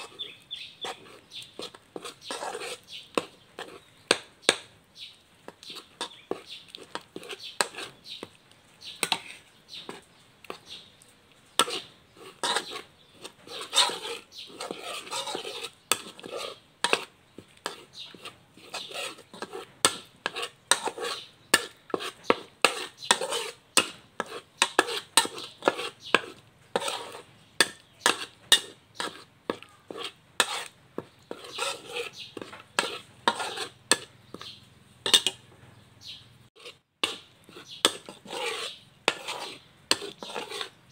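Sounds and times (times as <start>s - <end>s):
spatula scraping metal wok: 0.0s - 4.7s, 5.4s - 10.9s, 11.5s - 35.5s, 36.5s - 40.9s.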